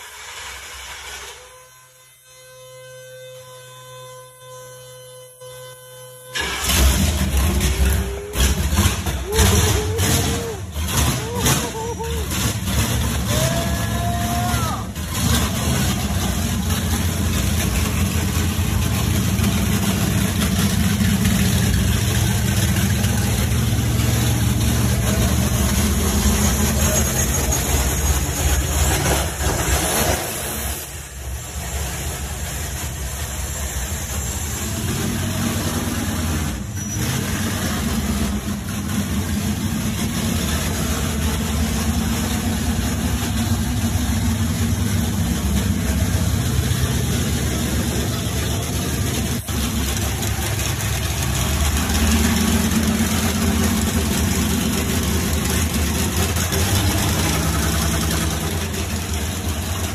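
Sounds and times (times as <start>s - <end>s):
car engine idling: 6.3s - 59.9s.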